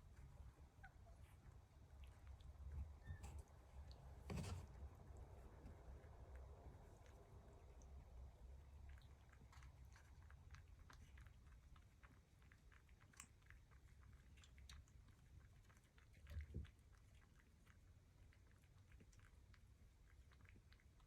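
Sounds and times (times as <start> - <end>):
cat chewing: 0.0 - 21.0.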